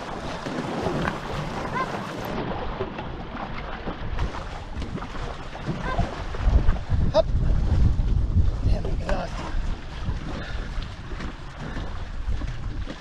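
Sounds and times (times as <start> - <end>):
water rushing and splashing: 0.0 - 13.0
wind buffeting microphone: 0.0 - 13.0.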